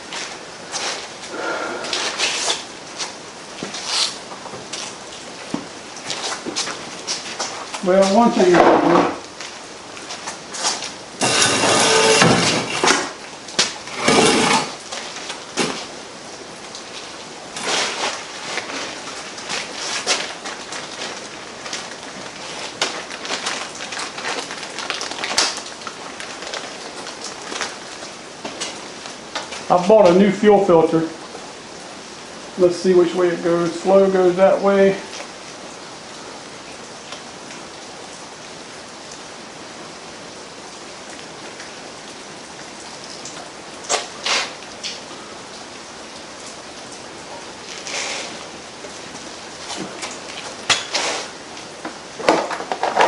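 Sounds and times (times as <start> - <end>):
steady hiss: 0.0 - 24.2, 25.4 - 42.8, 43.4 - 52.6.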